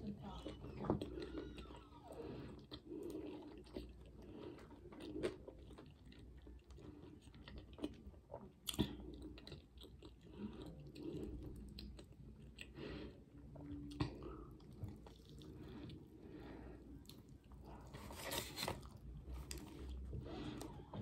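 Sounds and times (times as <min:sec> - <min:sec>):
person chewing food: 0:00.2 - 0:21.0.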